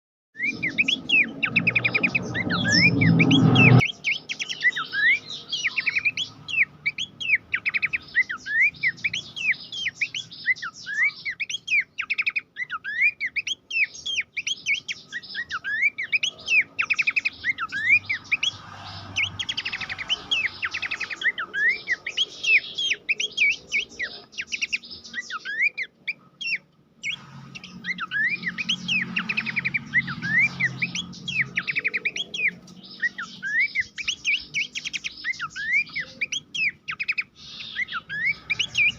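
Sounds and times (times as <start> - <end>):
bird singing whistled notes: 0.4 - 38.9.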